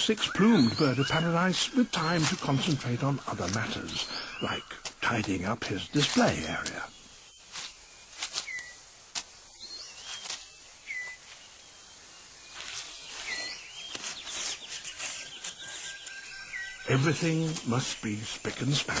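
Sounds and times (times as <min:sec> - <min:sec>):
birds giving whistled calls: 0:00.0 - 0:08.9, 0:09.5 - 0:19.0
leaves clicking and rustling: 0:00.0 - 0:19.0.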